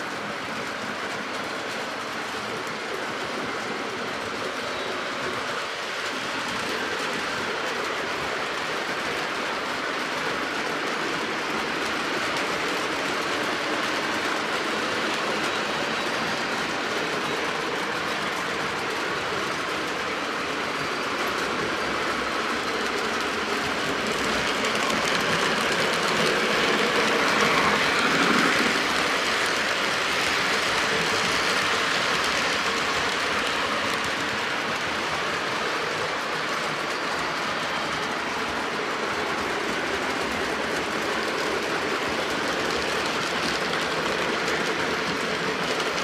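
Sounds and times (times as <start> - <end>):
model trains running on track: 0.0 - 46.0.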